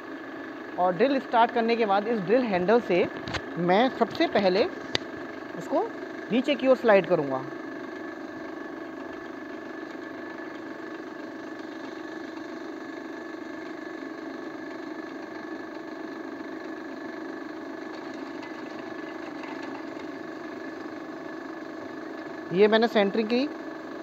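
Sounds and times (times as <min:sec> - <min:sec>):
pillar drill motor hum: 0:00.0 - 0:24.0.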